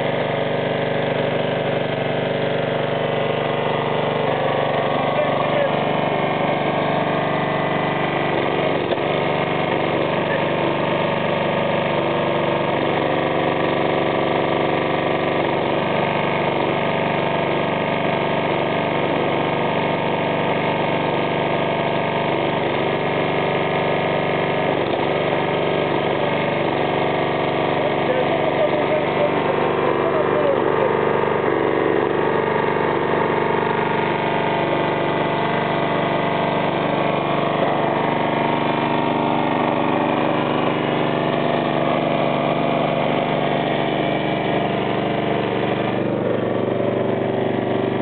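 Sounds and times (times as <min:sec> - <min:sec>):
petrol engine running steadily: 0:00.0 - 0:48.0.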